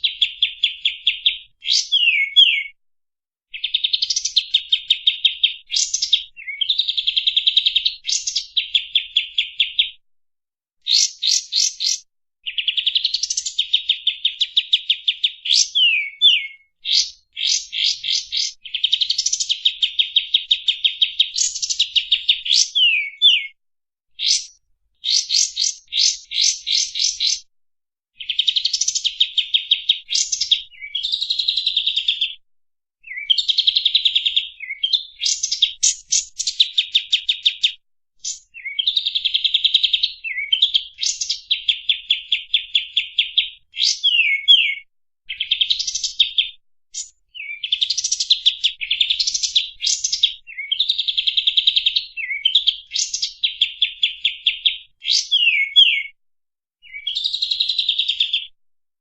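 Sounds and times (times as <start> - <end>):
bird singing trilled phrases: 0.0 - 2.8, 3.5 - 10.0, 10.8 - 23.6, 24.2 - 27.5, 28.2 - 32.4, 33.0 - 56.2, 56.8 - 58.6.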